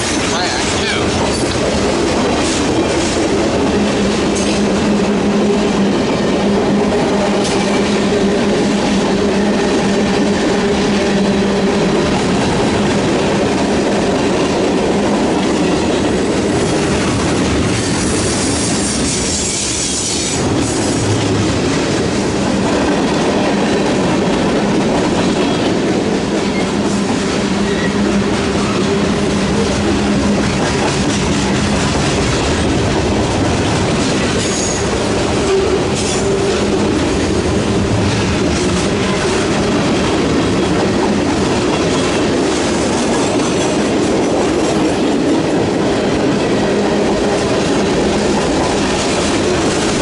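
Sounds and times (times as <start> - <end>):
train wheels on rails: 0.0 - 50.0.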